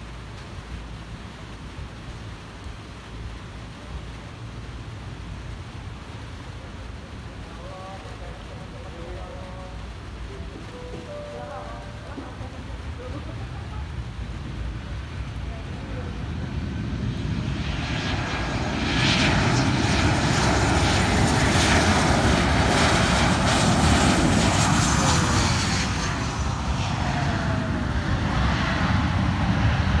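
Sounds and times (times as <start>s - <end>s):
jet engines rumbling: 0.1s - 30.0s.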